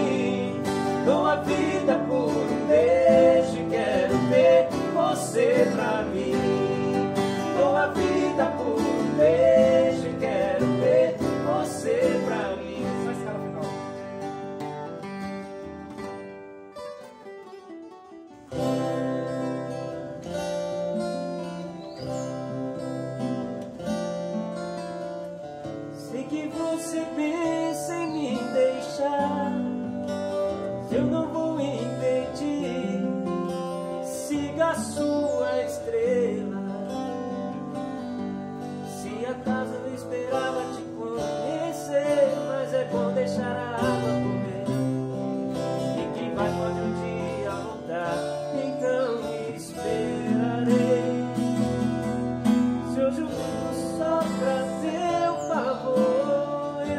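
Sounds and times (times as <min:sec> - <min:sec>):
strummed acoustic guitar chords: 0:00.0 - 0:56.9.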